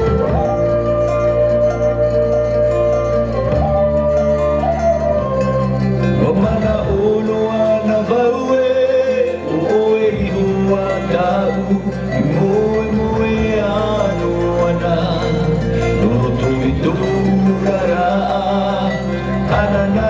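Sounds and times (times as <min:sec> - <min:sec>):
gliding melody line: 0:00.0 - 0:20.0
plucked strings music: 0:00.0 - 0:20.0.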